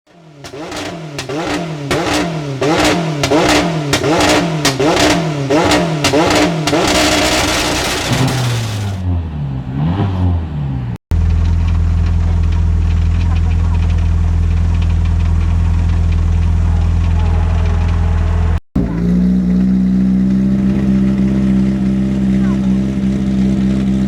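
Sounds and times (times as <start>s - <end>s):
race car engine revving: 0.1s - 24.0s.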